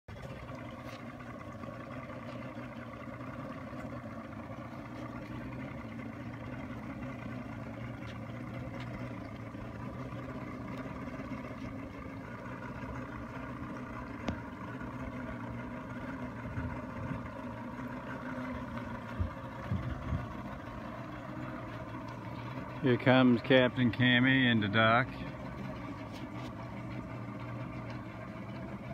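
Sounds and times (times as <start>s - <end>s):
motorboat engine running: 0.0s - 28.9s.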